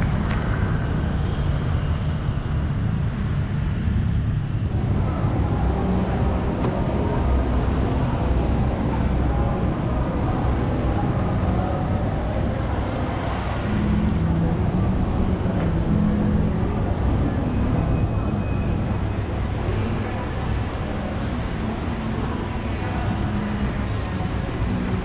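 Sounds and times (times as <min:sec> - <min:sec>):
din of indistinct voices: 0:04.7 - 0:25.0.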